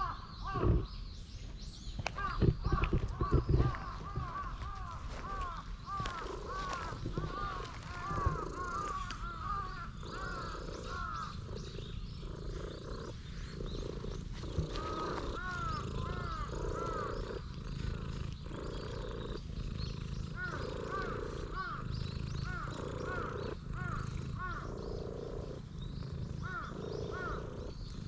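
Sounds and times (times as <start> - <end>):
bird chirps: 0.0 - 28.0
cat purring: 2.2 - 28.0.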